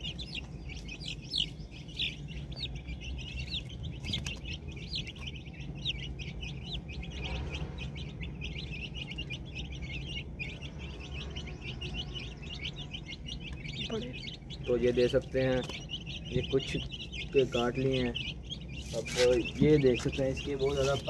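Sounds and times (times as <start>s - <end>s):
young chickens peeping: 0.0s - 21.0s.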